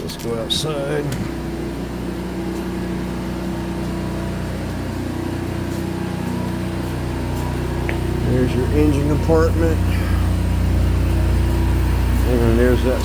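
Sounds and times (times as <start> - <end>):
generator engine hum: 0.0 - 13.0.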